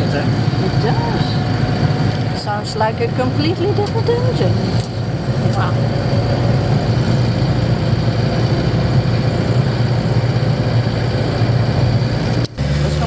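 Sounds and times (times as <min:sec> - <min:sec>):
quiet van engine running: 0:00.0 - 0:13.0.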